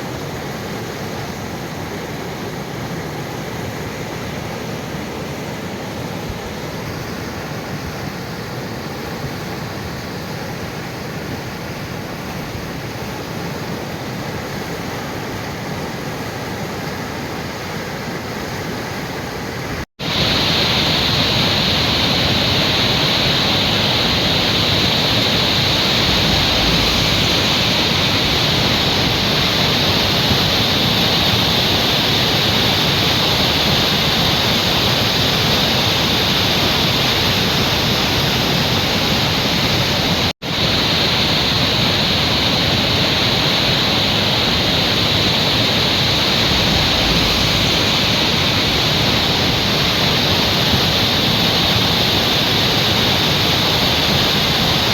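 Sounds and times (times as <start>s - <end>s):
stream rushing: 0.0s - 54.9s.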